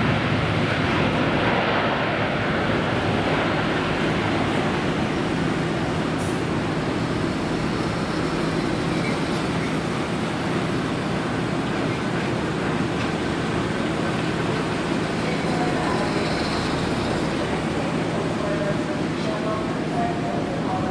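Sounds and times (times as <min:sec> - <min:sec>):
jet engines roaring: 0:00.0 - 0:20.9.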